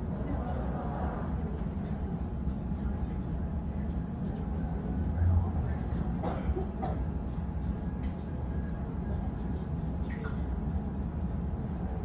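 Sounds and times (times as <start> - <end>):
low rumble of airport background: 0.0 - 12.0.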